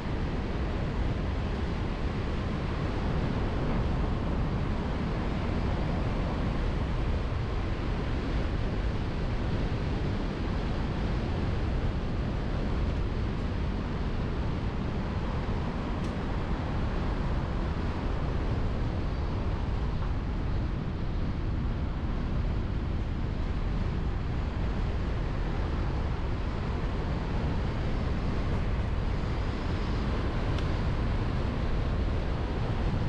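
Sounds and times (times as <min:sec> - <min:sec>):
car road and engine noise: 0:00.0 - 0:33.0
wind noise: 0:00.0 - 0:33.0.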